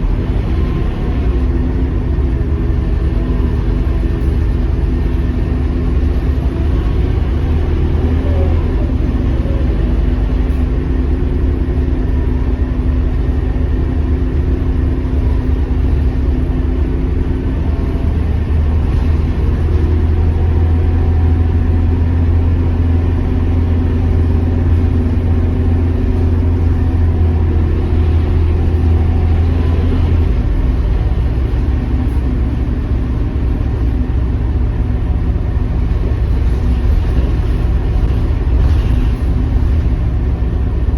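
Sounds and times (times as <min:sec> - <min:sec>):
bus engine droning: 0:00.0 - 0:40.9
road noise: 0:00.0 - 0:40.9.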